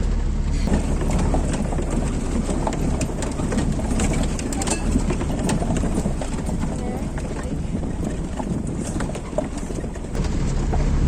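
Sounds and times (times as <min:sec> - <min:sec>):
vehicle rumbling on rough track: 0:00.0 - 0:11.0
load rattling and knocking: 0:00.7 - 0:11.0.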